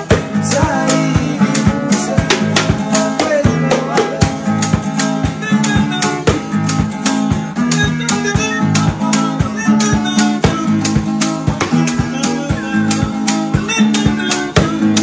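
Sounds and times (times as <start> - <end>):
acoustic guitar strummed: 0.0 - 15.0
bass line: 0.0 - 15.0
hand drum steady beat: 0.0 - 15.0
person singing: 0.0 - 15.0.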